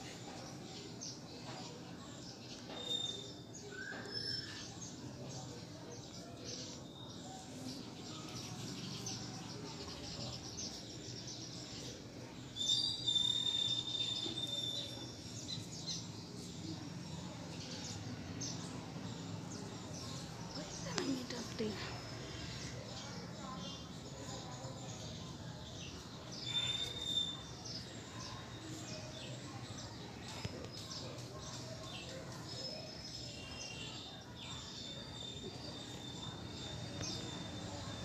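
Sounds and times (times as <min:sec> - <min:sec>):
birds chirping: 0:06.0 - 0:38.0.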